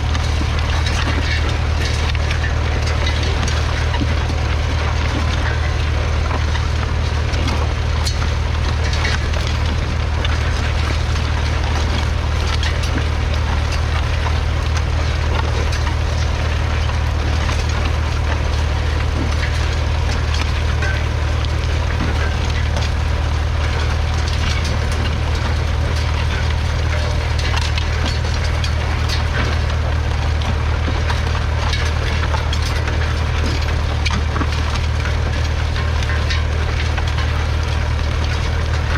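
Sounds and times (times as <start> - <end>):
dense crackling: 0.0 - 38.9
diesel tractor engine running: 0.0 - 38.9.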